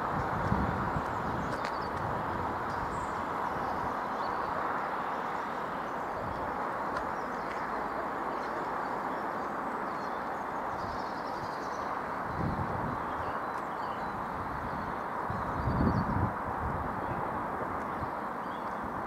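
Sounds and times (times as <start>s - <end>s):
birds chirping faintly: 0.0s - 16.2s, 16.9s - 19.0s
diesel train running on track: 0.0s - 19.0s.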